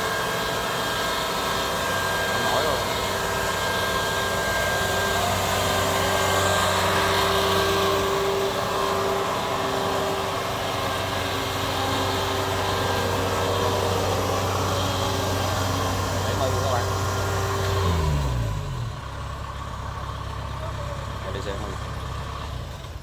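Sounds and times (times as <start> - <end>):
combine harvester engine drone: 0.0 - 23.0
machinery whine: 0.0 - 23.0.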